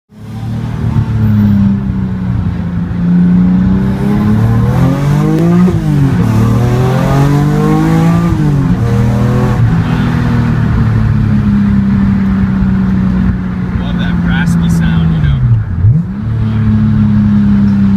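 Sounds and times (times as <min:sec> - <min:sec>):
car engine accelerating hard: 0:00.1 - 0:17.9.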